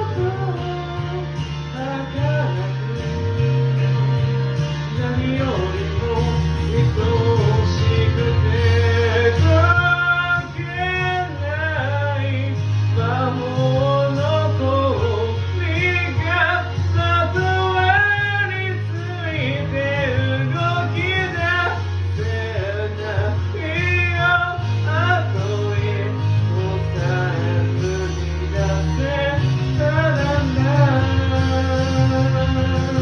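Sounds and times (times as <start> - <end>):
pop-rock backing track: 0.0 - 33.0.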